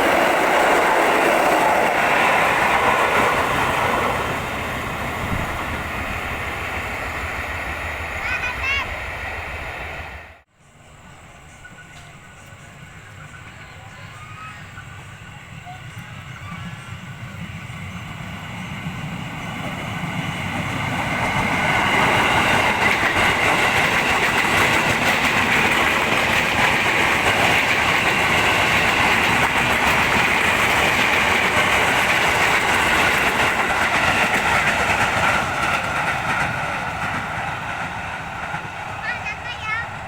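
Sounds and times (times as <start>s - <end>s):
train wheels clattering on rails: 0.0s - 9.8s, 11.6s - 40.0s.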